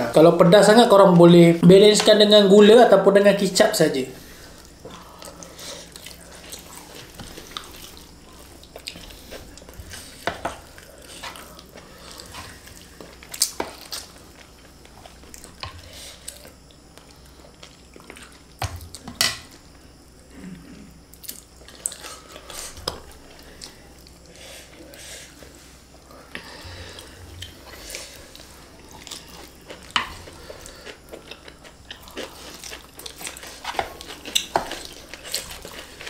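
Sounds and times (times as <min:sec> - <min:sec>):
quiet chewing: 0:04.5 - 0:19.7, 0:20.4 - 0:36.0.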